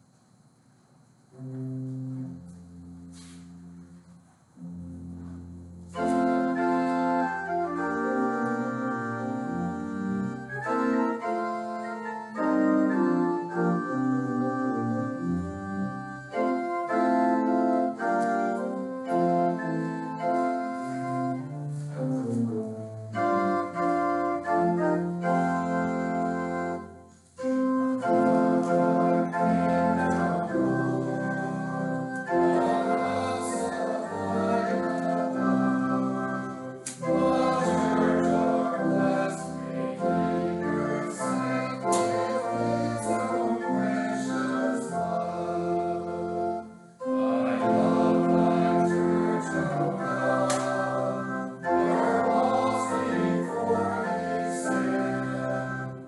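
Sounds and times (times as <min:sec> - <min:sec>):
organ playing a hymn: 0:01.3 - 0:56.0.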